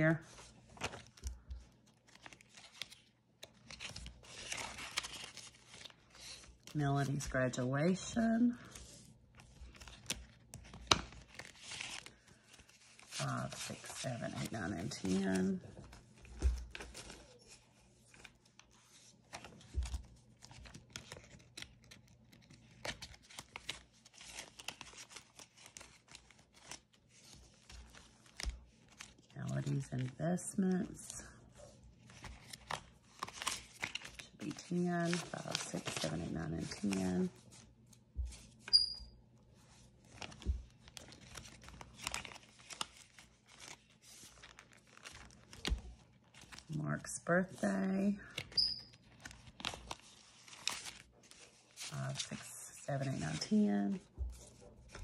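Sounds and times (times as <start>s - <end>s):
paper banknotes rustling: 0.2s - 38.9s, 39.6s - 55.0s.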